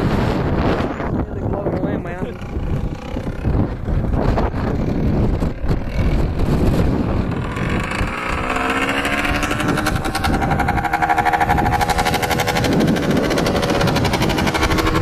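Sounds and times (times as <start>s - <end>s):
dirt bike engine passing by: 0.0s - 15.0s.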